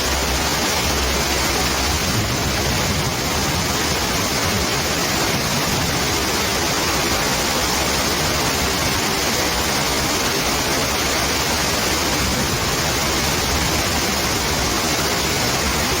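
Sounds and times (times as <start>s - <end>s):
heavy rain pouring: 0.0s - 16.0s
rainwater running over tree trunk: 0.0s - 16.0s.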